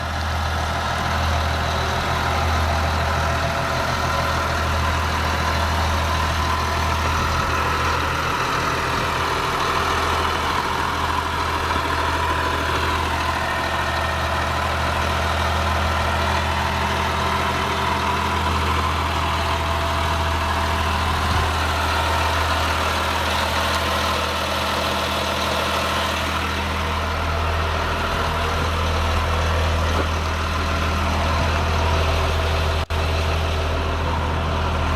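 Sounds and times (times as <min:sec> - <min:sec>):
diesel bus engine idling: 0:00.0 - 0:34.9.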